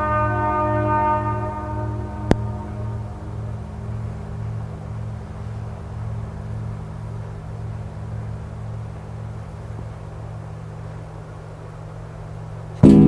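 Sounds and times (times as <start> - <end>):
gong ringing with wavering hum: 0.0 - 13.0.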